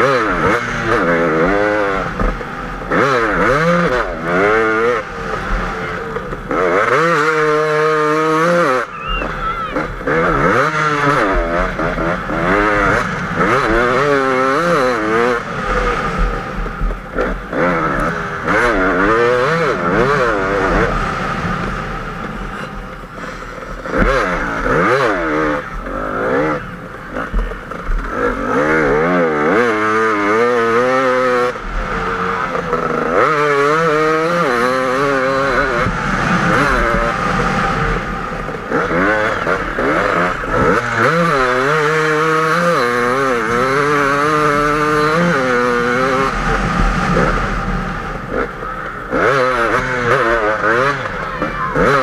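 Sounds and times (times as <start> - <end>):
two-stroke motorcycle engine revving: 0.0 - 52.0.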